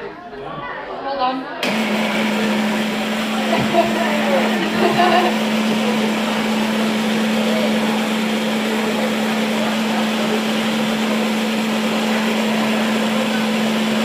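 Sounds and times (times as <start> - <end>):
machine humming: 1.6 - 14.0.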